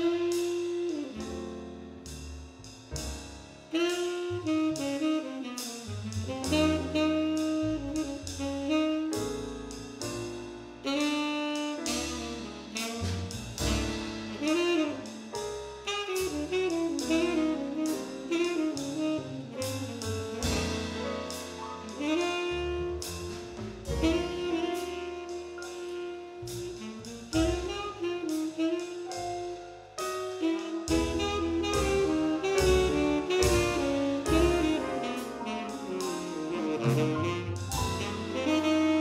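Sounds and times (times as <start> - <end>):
tenor saxophone melody: 0.0 - 1.4, 3.7 - 9.4, 10.8 - 15.2, 15.9 - 20.0, 21.8 - 23.3, 24.0 - 39.0
drum kit: 0.0 - 39.0
piano: 0.0 - 39.0.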